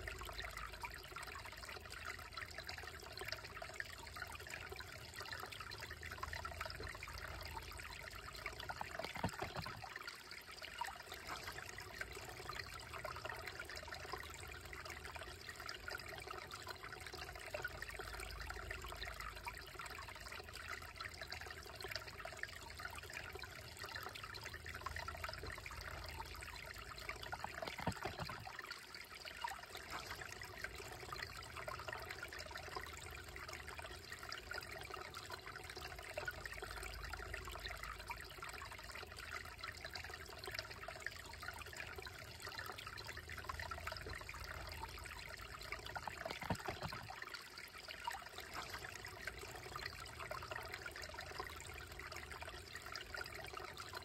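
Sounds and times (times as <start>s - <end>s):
creek trickling over rocks: 0.0s - 54.0s.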